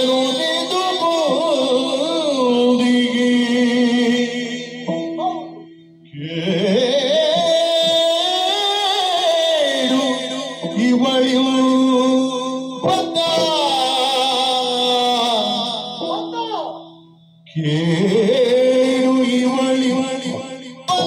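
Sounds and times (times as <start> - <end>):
person singing ornamented line: 0.0 - 21.0.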